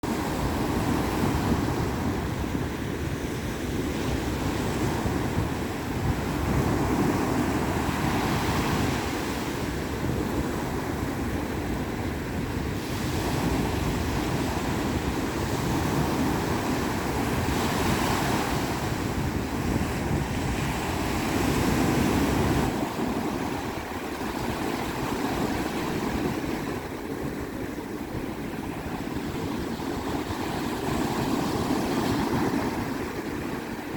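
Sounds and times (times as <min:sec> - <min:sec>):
wind buffeting microphone: 0:00.0 - 0:33.9
sea waves breaking on shore: 0:00.1 - 0:33.9.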